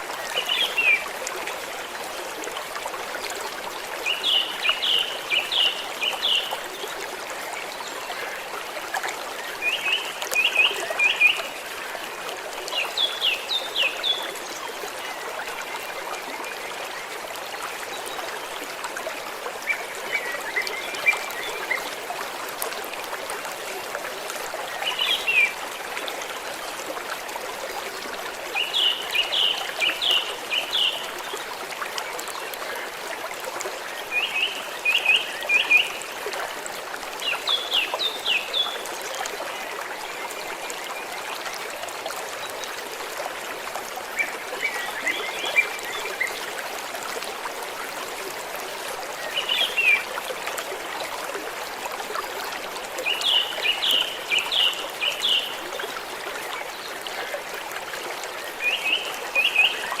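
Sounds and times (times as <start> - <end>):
stream running over rocks: 0.0 - 60.0.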